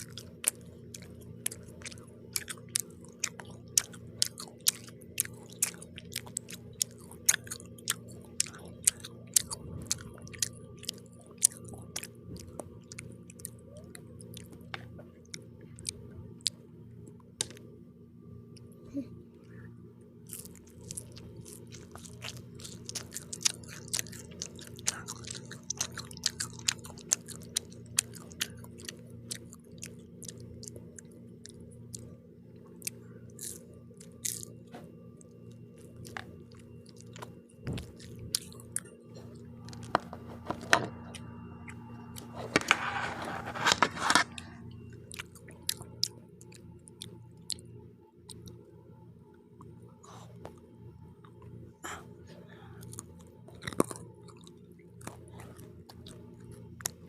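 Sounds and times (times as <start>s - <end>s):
chewing crunchy pizza: 0.0s - 17.8s, 18.5s - 57.0s
steady low hum: 0.0s - 57.0s.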